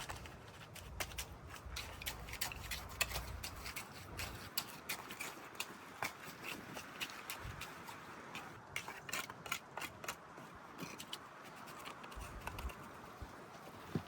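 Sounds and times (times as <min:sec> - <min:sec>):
hand tool scraping wet concrete: 0:00.0 - 0:12.8.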